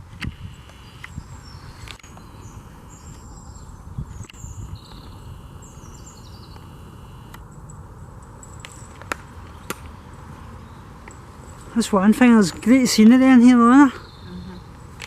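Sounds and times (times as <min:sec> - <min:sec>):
small birds chirping and trilling: 0:00.4 - 0:15.0.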